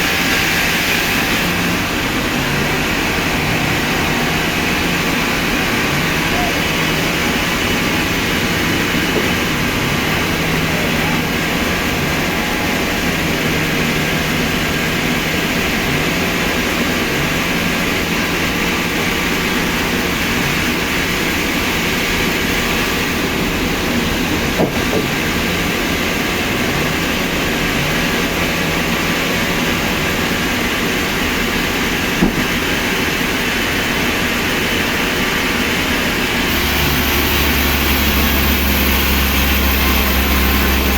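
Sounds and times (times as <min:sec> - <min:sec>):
heavy machinery running: 0:00.0 - 0:40.9.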